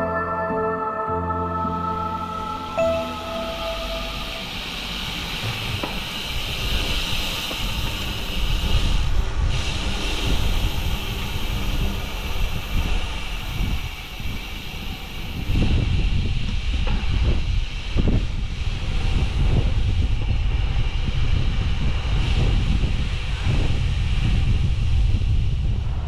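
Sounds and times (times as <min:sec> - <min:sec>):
hiss of air and tyres: 0:02.3 - 0:26.0
wind buffeting microphone: 0:05.0 - 0:26.0.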